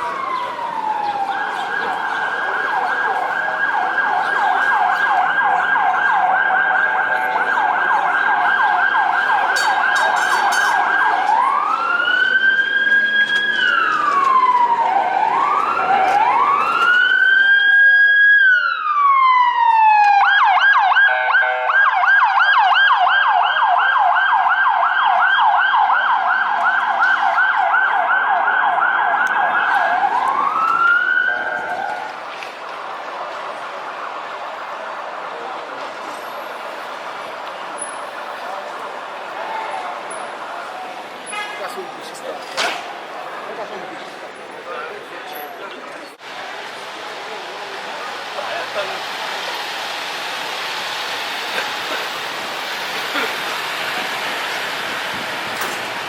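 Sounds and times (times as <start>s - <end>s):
emergency siren yelp and wail: 0.0s - 41.2s, 46.2s - 56.0s.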